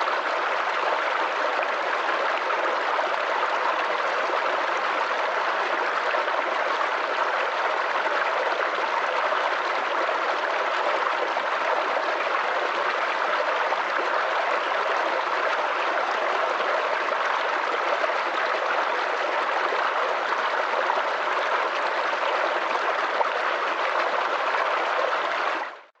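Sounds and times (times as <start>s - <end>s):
flowing water: 0.0s - 25.9s.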